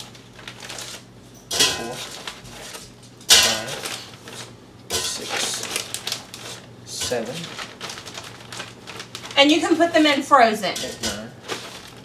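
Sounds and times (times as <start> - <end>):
plastic bag crinkling: 0.0 - 1.2, 1.9 - 3.0, 3.6 - 4.6, 5.2 - 12.0.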